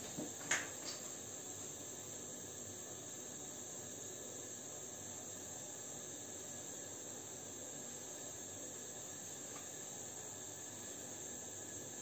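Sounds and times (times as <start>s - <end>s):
gas burner hissing: 0.0s - 12.0s.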